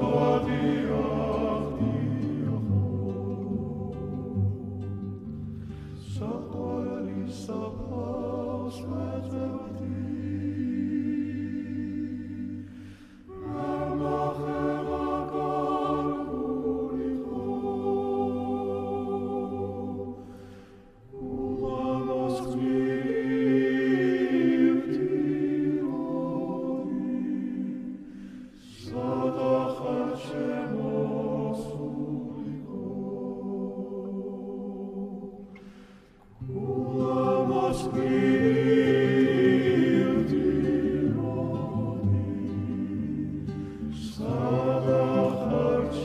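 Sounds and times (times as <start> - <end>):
choir singing slowly: 0.0 - 46.0.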